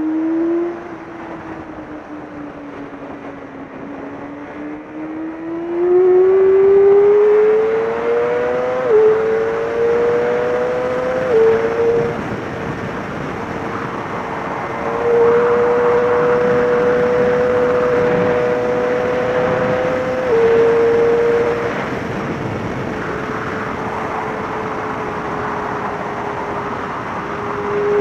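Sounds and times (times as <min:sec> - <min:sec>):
motorcycle engine at high revs: 0:03.8 - 0:13.9, 0:14.7 - 0:28.0.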